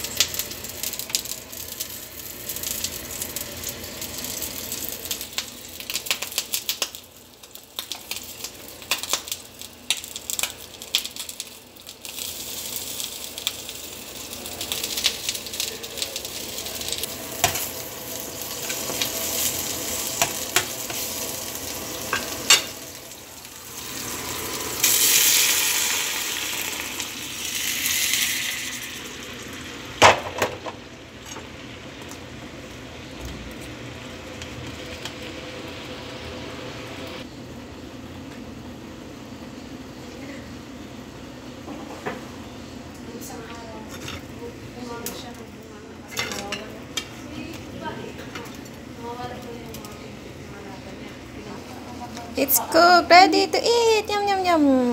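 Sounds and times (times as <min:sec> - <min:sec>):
food sizzling in a pan: 0:00.0 - 0:54.9.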